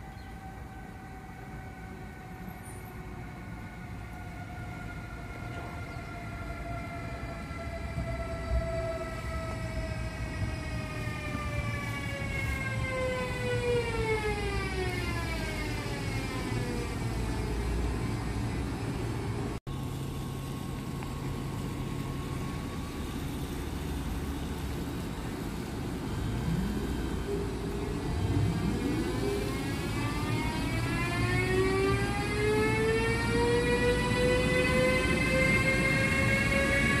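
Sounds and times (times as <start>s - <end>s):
electric locomotive motor whine: 0.0s - 37.0s.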